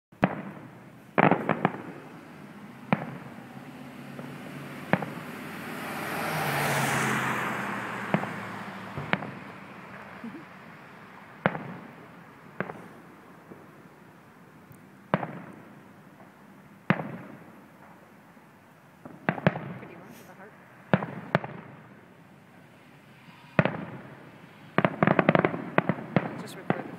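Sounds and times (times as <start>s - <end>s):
fireworks booming: 0.2s - 18.4s, 19.0s - 22.3s, 23.1s - 26.9s.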